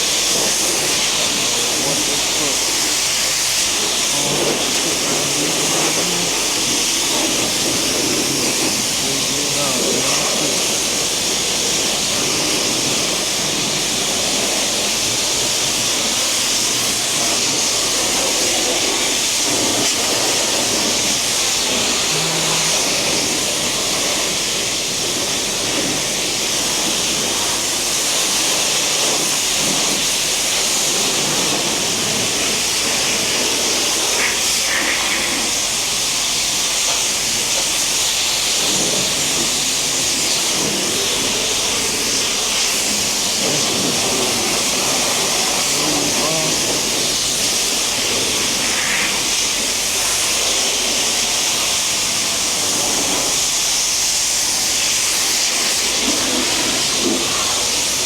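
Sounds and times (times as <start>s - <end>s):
water spray hissing on car: 0.0s - 58.0s.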